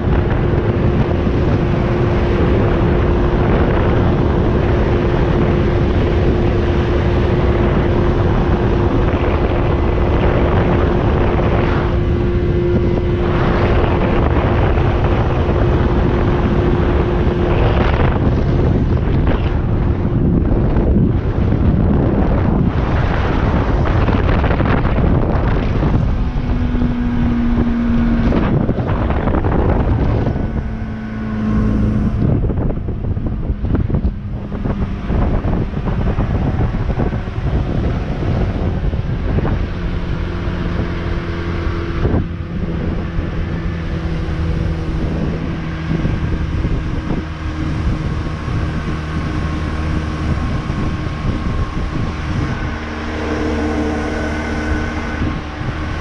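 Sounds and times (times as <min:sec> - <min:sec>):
outboard motor running: 0:00.0 - 0:56.0
wind buffeting microphone: 0:00.0 - 0:56.0.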